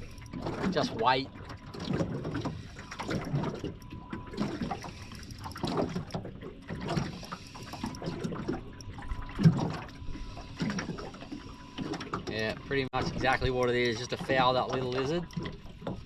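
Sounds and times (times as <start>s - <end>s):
water slapping against boat hull: 0.0s - 16.0s.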